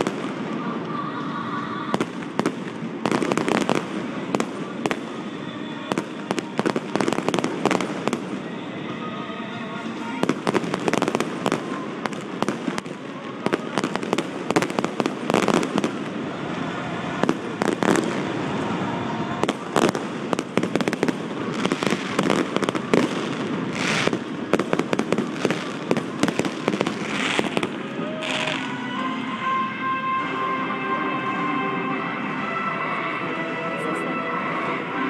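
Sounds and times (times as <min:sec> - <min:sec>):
fireworks bangs and crackles: 0:00.0 - 0:29.2.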